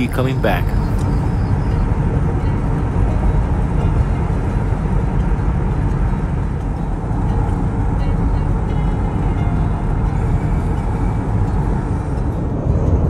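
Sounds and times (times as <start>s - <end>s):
car road noise from inside: 0.0s - 13.0s.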